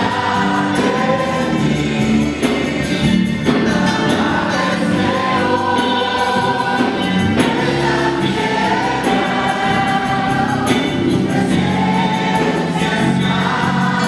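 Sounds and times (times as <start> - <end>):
church choir singing a hymn: 0.0 - 14.0.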